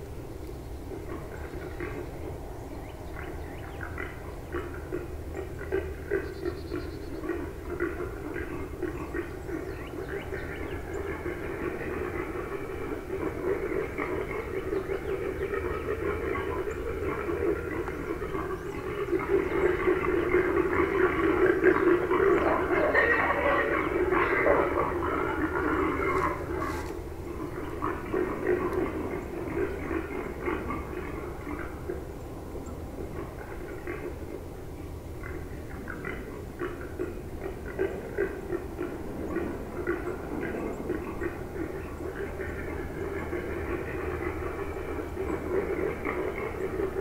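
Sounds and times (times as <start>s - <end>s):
wild hogs grunting and squealing: 0.9s - 34.5s, 35.1s - 47.0s.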